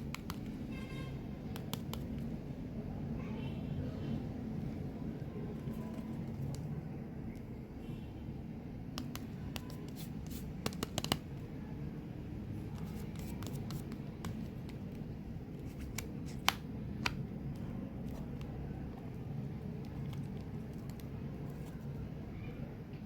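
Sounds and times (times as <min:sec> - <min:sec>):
low background noise: 0:00.0 - 0:23.0.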